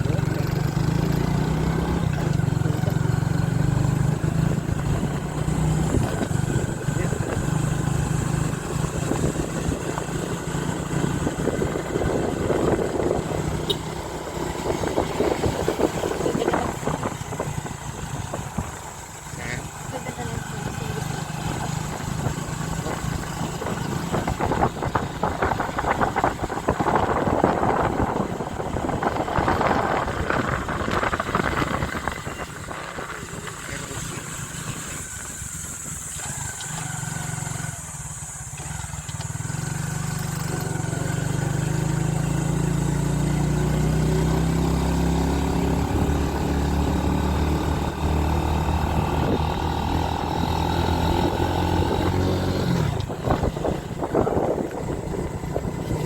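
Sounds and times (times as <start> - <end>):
wind buffeting microphone: 0.0 - 19.2, 20.4 - 39.5, 42.1 - 56.0
motorcycle engine accelerating: 0.0 - 56.0.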